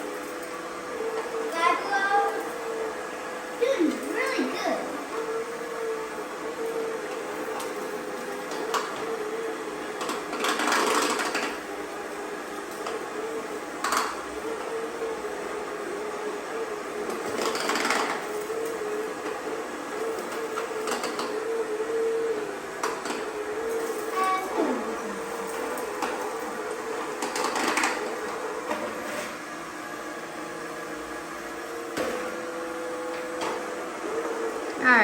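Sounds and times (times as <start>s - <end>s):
candy crushing in vacuum: 0.0s - 34.9s
robot vacuum motor whine: 0.0s - 35.0s.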